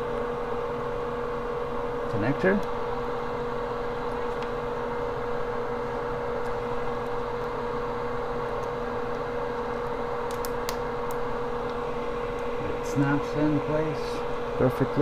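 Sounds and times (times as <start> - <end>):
fan-like equipment hum: 0.0 - 15.0.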